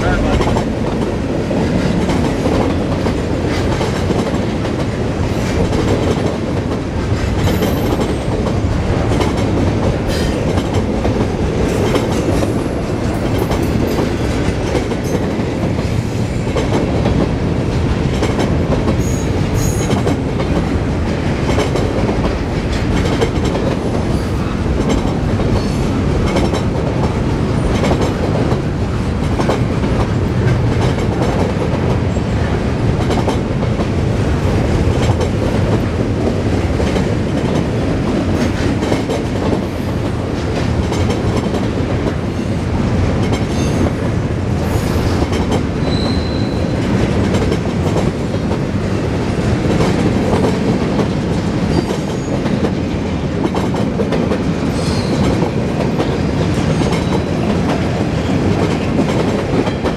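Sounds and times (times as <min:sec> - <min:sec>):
clickety-clack of rail joints: 0:00.0 - 0:59.9
steel wheels rumbling on rail: 0:00.0 - 0:59.9.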